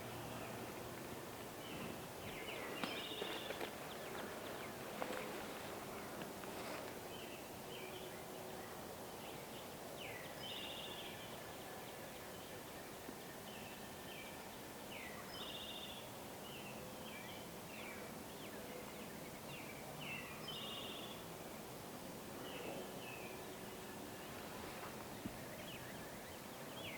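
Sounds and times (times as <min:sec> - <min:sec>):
faint outdoor background noise: 0:00.0 - 0:26.9
songbird singing with buzzy trill: 0:01.6 - 0:06.2, 0:07.1 - 0:21.6, 0:22.4 - 0:24.4, 0:25.1 - 0:26.9.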